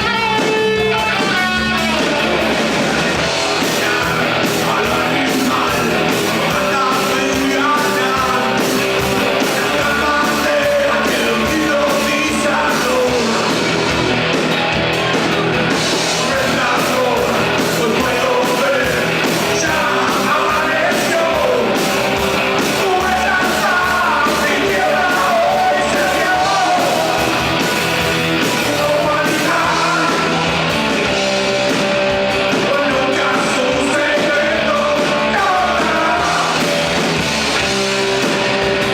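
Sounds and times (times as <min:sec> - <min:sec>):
rock song with singer: 0:00.0 - 0:38.9.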